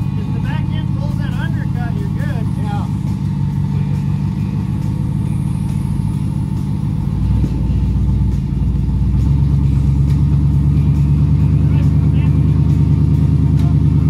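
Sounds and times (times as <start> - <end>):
off-road engine running: 0.0 - 14.0.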